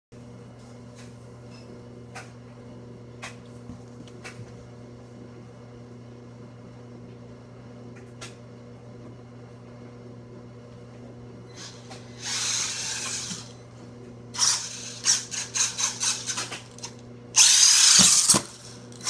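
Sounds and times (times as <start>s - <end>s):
steady low hum: 0.2s - 19.0s.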